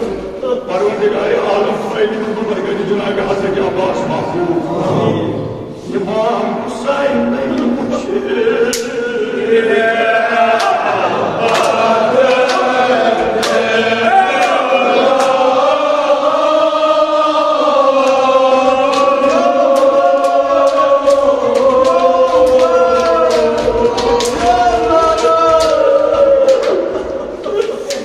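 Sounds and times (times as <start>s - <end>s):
men chanting together: 0.0s - 28.0s.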